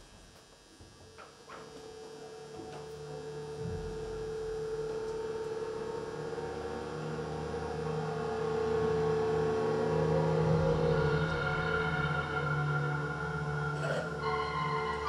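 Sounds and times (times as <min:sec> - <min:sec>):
droning music over sound system: 0:00.0 - 0:15.0.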